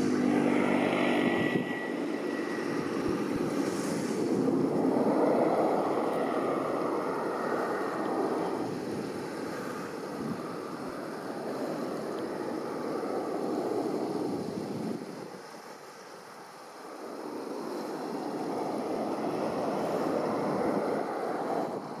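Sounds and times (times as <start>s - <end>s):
outdoor rushing noise: 0.0s - 22.0s.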